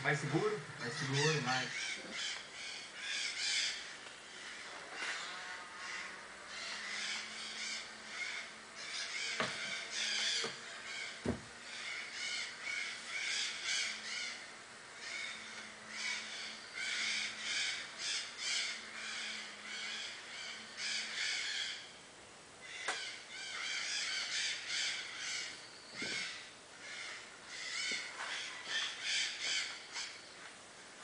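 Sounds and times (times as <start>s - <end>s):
harsh bird calls: 0.0s - 22.0s, 22.6s - 30.5s.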